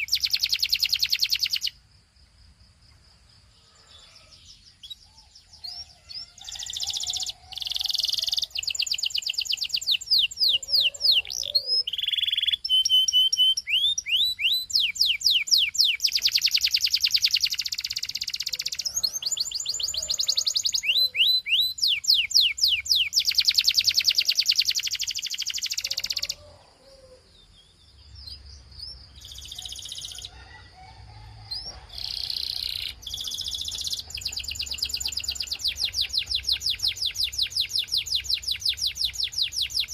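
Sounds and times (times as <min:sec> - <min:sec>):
canary singing trills: 0:00.0 - 0:01.8, 0:03.6 - 0:30.7, 0:31.5 - 0:39.9.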